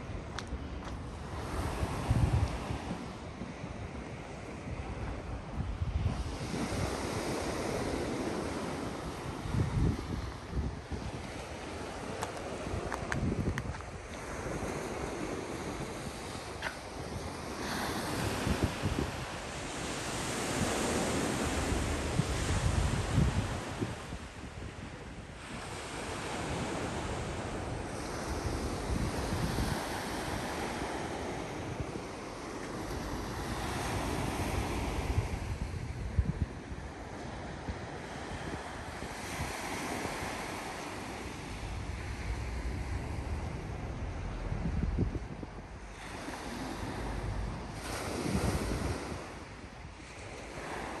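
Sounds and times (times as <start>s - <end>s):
surf washing onto beach: 0.0s - 51.0s
wind buffeting microphone: 0.0s - 51.0s.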